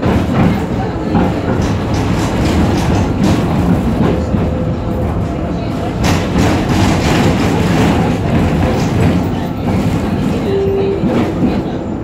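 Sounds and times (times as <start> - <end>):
tram wheels rumbling on rail: 0.0 - 12.0.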